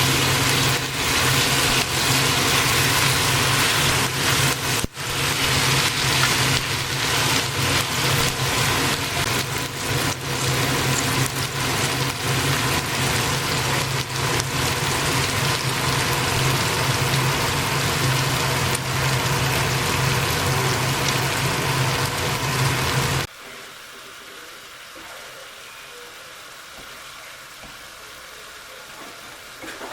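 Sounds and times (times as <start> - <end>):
hot oil sizzling and crackling: 0.0 - 29.9.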